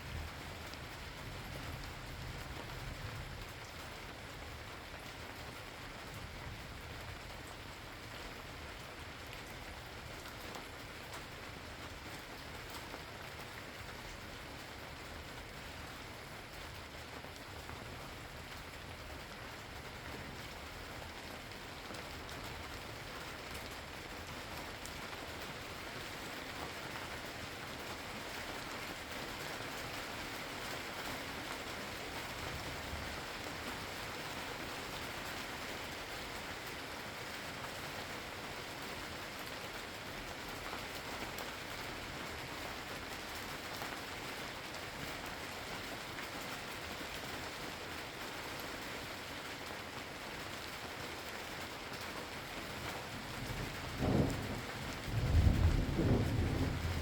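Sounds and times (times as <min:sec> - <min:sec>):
steady rain hiss: 0:00.0 - 0:57.0
raindrops ticking on surface: 0:00.1 - 0:57.0.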